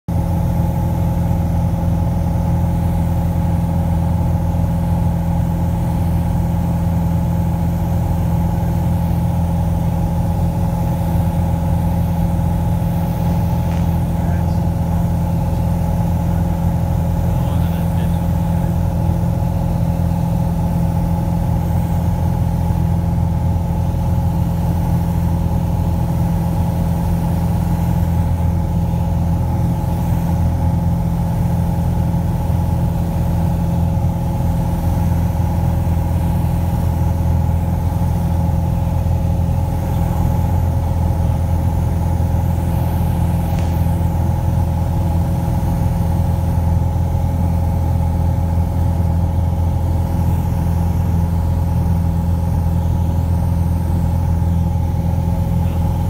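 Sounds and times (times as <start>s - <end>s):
light aircraft engine drone: 0.1s - 56.0s.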